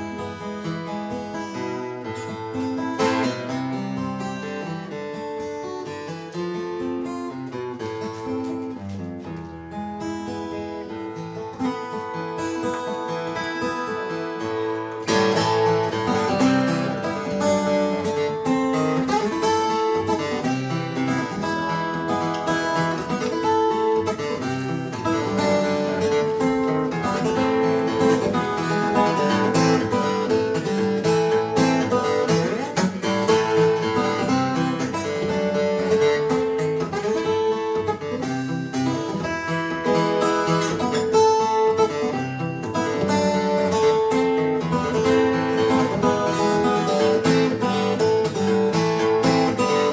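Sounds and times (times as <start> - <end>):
acoustic guitar picked notes: 0.0 - 49.9.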